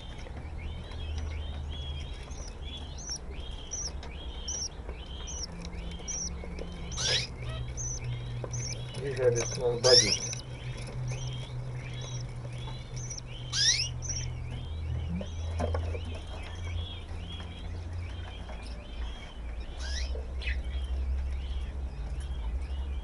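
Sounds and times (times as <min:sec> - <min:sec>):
budgerigars chattering: 0:00.0 - 0:23.0
low steady hum: 0:00.0 - 0:23.0.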